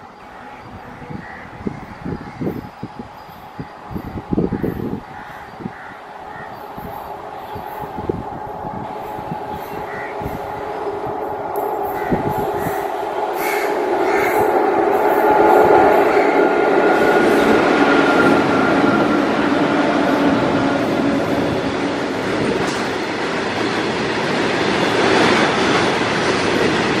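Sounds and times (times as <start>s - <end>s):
freight train rumbling and rattling: 0.0s - 27.0s.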